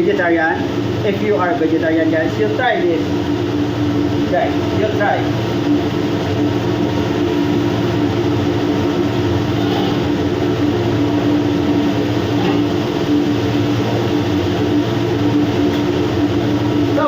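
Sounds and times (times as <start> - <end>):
machinery drone: 0.0 - 17.0.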